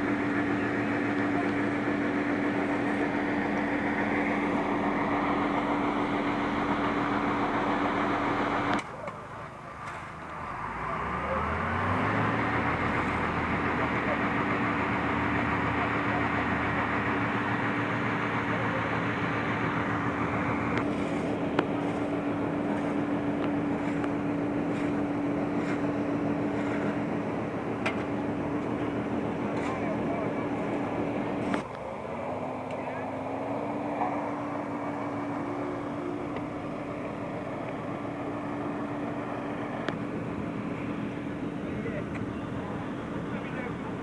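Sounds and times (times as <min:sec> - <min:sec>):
heavy machinery engine drone: 0:00.0 - 0:44.0.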